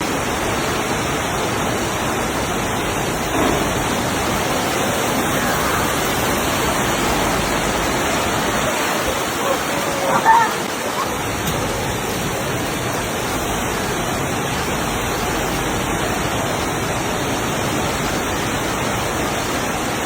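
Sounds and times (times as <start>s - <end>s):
torrential rain pouring: 0.0s - 20.0s.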